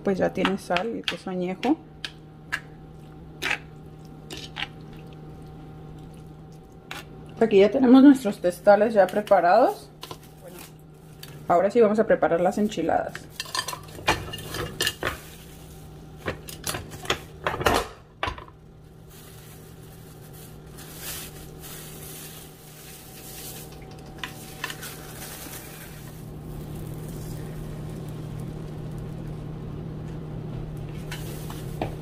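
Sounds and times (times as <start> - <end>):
low kitchen hum: 0.0 - 32.0.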